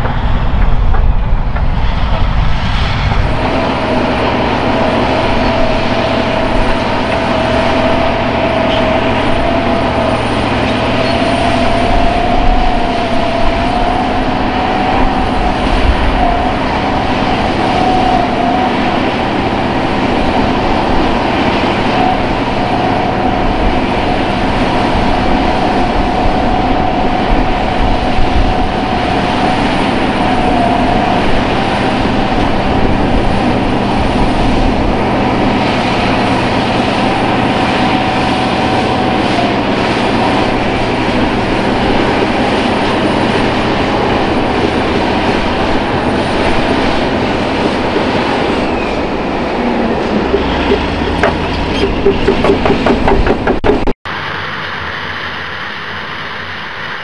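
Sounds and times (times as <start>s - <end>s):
diesel engine under load: 0.0s - 56.4s
steady high whine: 0.0s - 57.0s.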